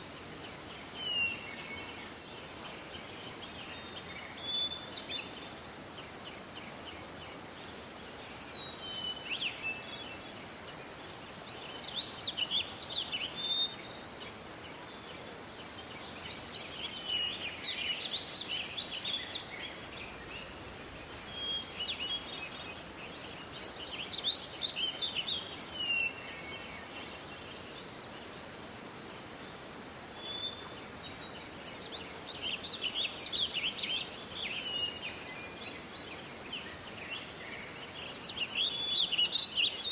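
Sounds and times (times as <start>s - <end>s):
songbirds chirping and trilling: 0.0s - 39.9s
steady background hiss: 0.0s - 39.9s.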